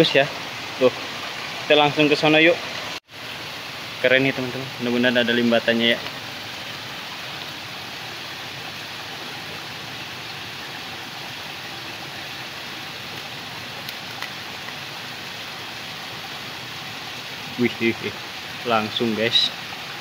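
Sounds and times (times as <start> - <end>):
stream water hissing: 0.0 - 20.0.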